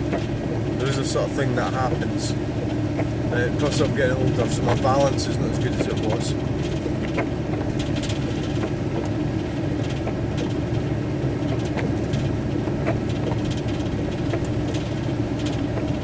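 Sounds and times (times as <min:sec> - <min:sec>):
road noise: 0:00.0 - 0:16.0
van engine running: 0:00.0 - 0:16.0.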